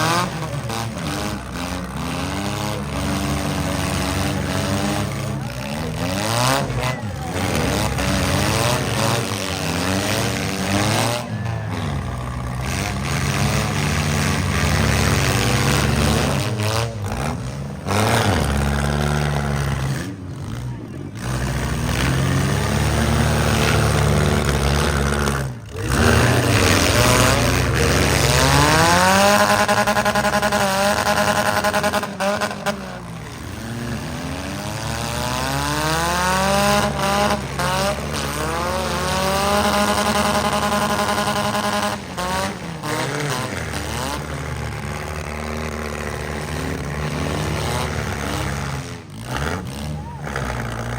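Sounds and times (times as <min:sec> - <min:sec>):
car engines revving hard: 0:00.0 - 0:50.9.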